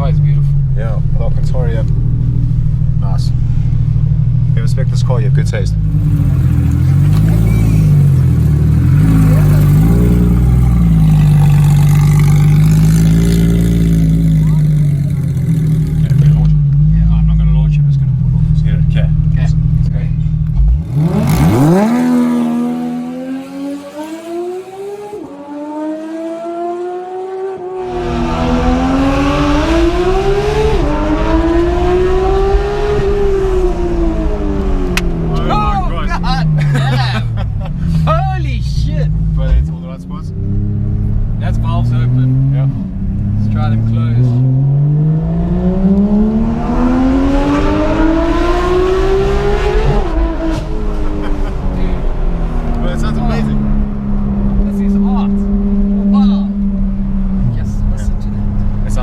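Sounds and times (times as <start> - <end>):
car engine revving hard: 5.8 - 16.5, 20.4 - 38.3, 39.1 - 59.0.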